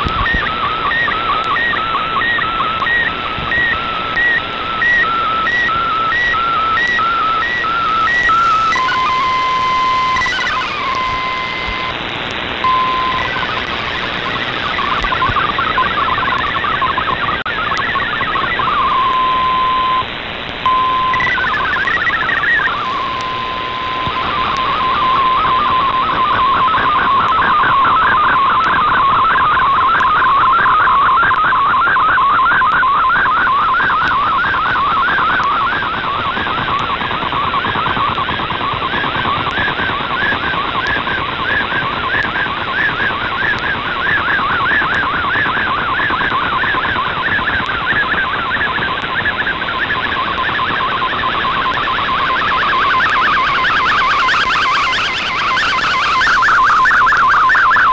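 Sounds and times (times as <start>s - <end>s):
warbling digital data signal: 0.0s - 12.0s, 12.6s - 20.1s, 20.7s - 57.9s
radio receiver hiss: 0.0s - 57.9s
steady data tone: 0.0s - 57.9s.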